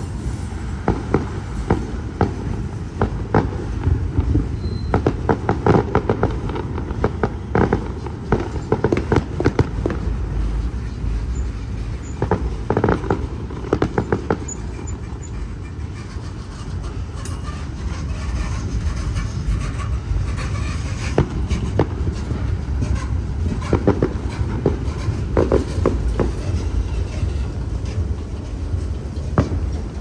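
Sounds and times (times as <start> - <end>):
freight train cars rumbling: 0.0 - 30.0
wheels clicking over rail joints: 0.0 - 30.0.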